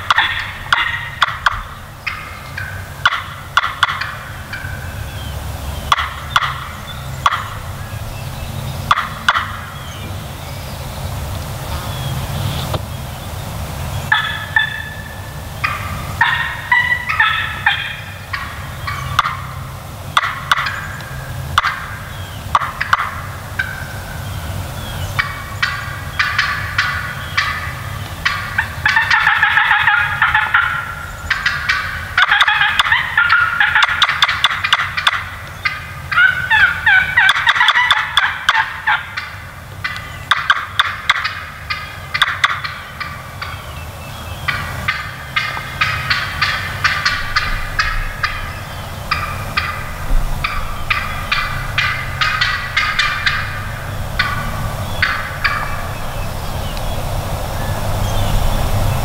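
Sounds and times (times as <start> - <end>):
turkeys gobbling: 0.0 - 12.8, 13.9 - 59.0.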